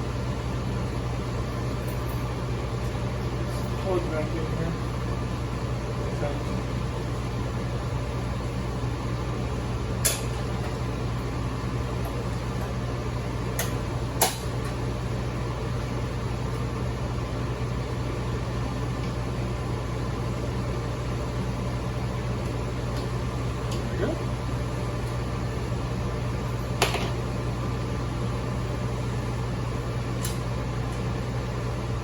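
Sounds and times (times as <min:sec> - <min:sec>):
air conditioning unit humming: 0:00.0 - 0:32.0.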